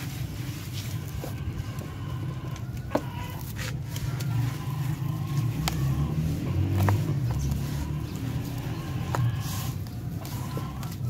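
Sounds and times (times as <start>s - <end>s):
grains ticking: 0.9s - 11.0s.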